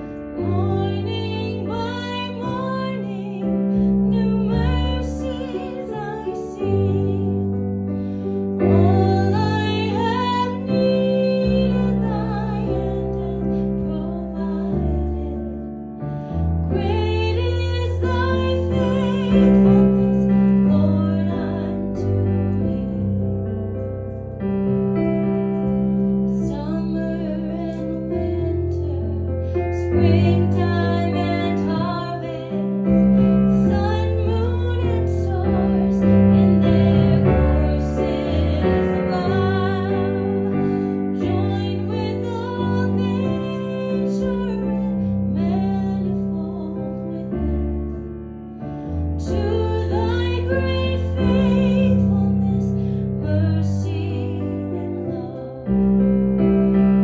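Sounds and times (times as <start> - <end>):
slow piano music: 0.0 - 57.0.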